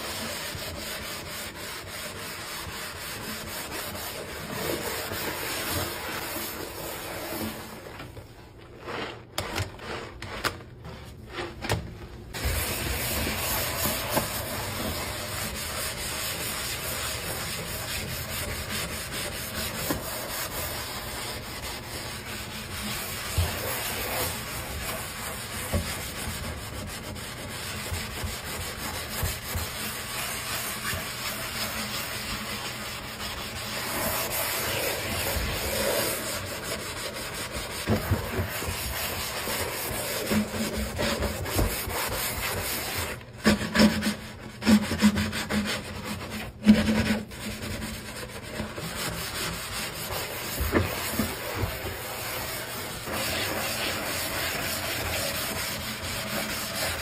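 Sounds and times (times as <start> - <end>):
sponge squeaks: 0.0 - 8.0, 12.3 - 57.0
sponge scrubbing steel sink: 0.0 - 57.0.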